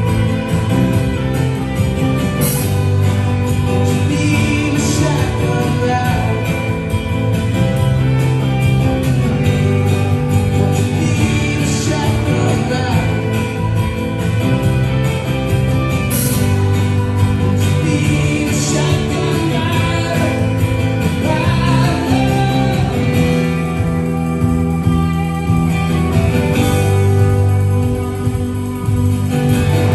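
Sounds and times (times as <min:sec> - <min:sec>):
band playing country rock: 0:00.0 - 0:29.9
guitar: 0:00.0 - 0:29.9
steady drum beat: 0:00.0 - 0:29.9.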